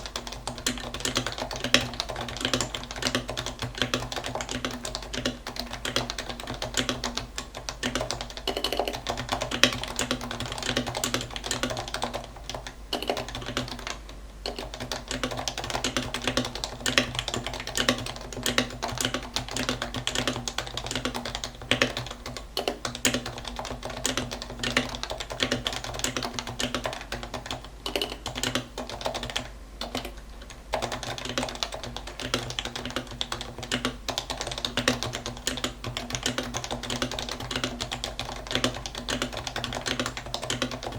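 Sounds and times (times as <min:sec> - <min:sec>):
keyboard typing: 0:00.0 - 0:40.9
low steady hum: 0:00.0 - 0:40.9.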